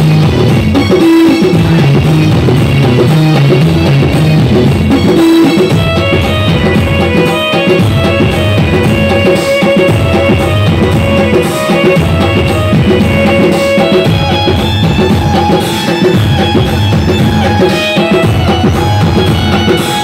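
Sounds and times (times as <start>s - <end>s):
loud dance music: 0.0s - 20.0s.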